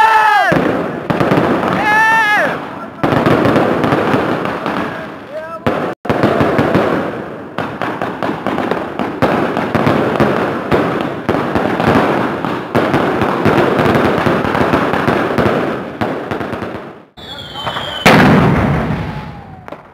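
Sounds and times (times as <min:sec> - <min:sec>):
fireworks crackling and popping: 0:00.0 - 0:19.9.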